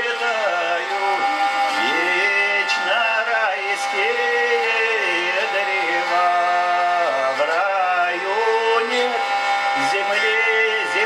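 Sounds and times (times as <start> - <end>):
hurdy-gurdy drone: 0.0 - 11.0
man singing: 0.0 - 11.0.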